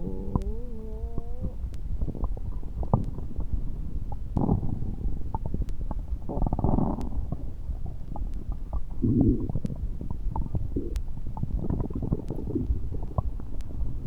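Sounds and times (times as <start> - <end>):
stomach rumbling and gurgling: 0.0 - 14.0.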